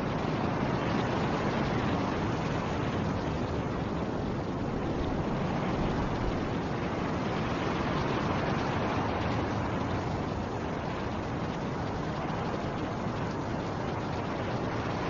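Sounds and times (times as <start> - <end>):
snowstorm wind blowing: 0.0 - 15.0.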